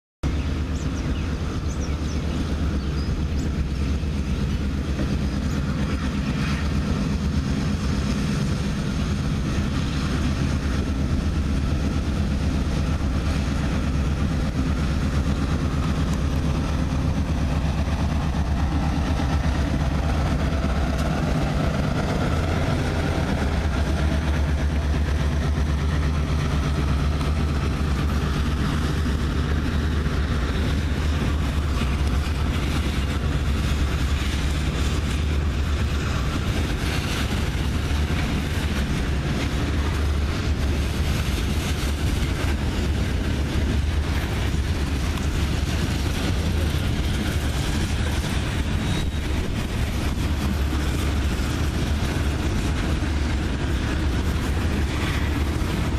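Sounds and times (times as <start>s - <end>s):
diesel locomotive engine rumbling: 0.2s - 55.9s
freight cars passing: 0.2s - 55.9s.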